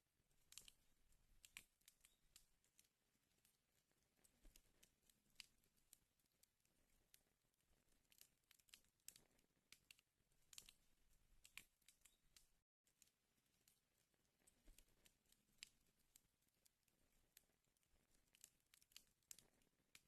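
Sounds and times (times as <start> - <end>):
wood fire crackling: 0.2 - 20.0.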